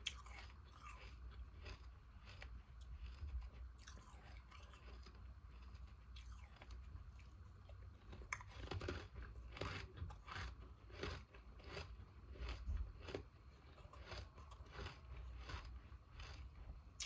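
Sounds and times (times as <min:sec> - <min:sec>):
ice crunching while chewed: 0:00.0 - 0:17.0.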